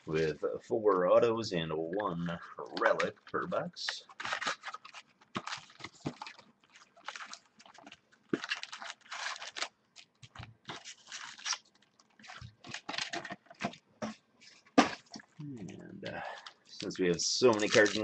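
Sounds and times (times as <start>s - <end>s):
plastic wrapping crinkling and tearing: 2.7s - 15.4s, 16.2s - 18.0s.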